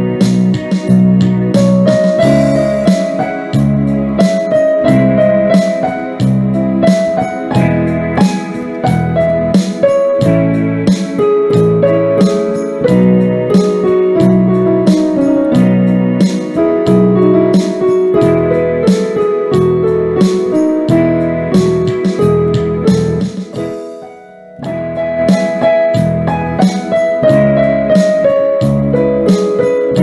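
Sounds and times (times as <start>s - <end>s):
instrumental music with piano: 0.0s - 30.0s.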